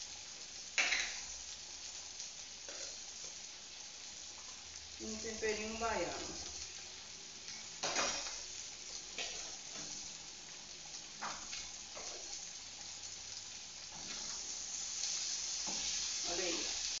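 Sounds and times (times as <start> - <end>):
beans sizzling in a pan: 0.0 - 17.0.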